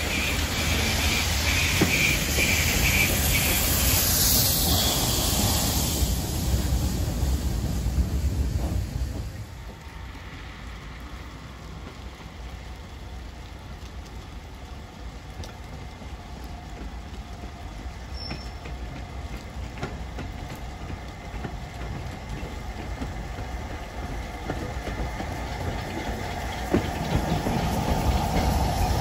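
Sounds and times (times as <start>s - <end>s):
steam locomotive rumbling: 0.0s - 29.0s.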